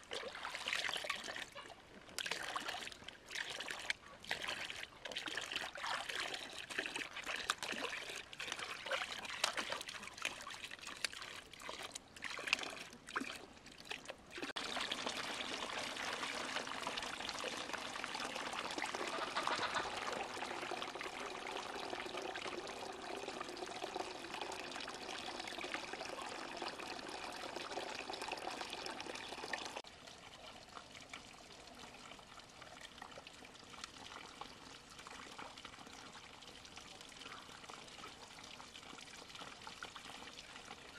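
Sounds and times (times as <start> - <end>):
water pouring: 0.0 - 40.9
water trickling and splashing: 0.0 - 40.9.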